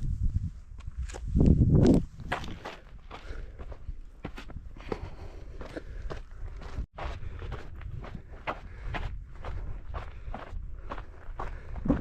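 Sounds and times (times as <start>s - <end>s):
footsteps on a trail: 0.0s - 12.0s.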